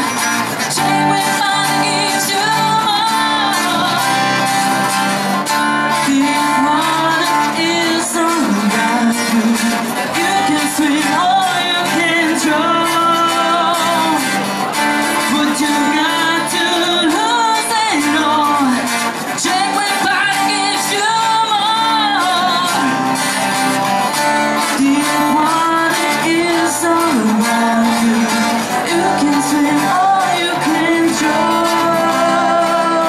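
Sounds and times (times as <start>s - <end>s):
woman singing: 0.0s - 5.0s, 5.8s - 14.4s, 15.2s - 23.2s, 24.6s - 33.0s
strummed acoustic guitar: 0.0s - 33.0s.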